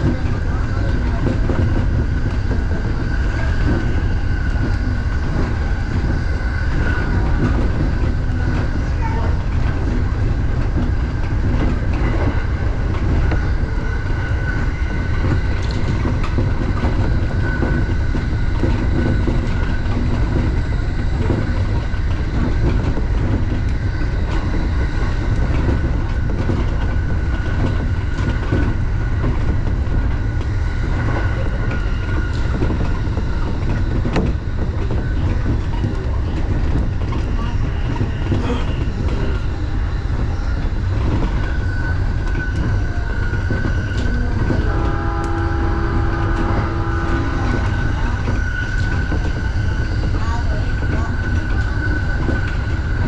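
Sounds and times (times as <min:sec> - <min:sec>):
sharp clicks from rails: 0:00.0 - 0:53.0
train low rumble: 0:00.0 - 0:53.0.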